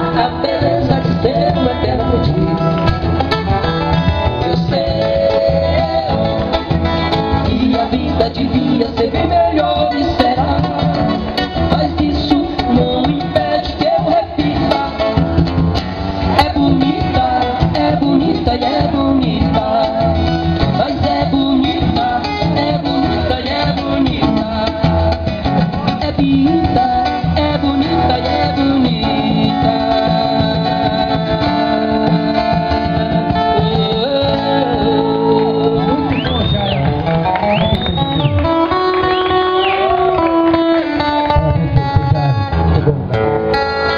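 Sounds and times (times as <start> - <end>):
man singing into a microphone: 0.0 - 15.6, 16.2 - 36.9
amplified guitar: 0.0 - 43.9.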